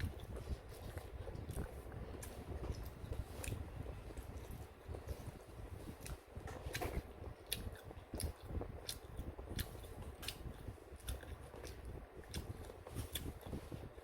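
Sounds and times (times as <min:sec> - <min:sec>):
chewing and wet mouth smacks: 0:00.0 - 0:13.7.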